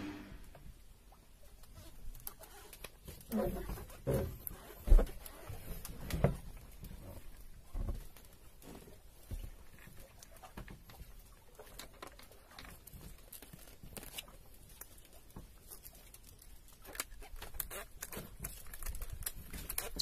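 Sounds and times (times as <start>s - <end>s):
wet fishing line hauled in: 0.0s - 20.0s.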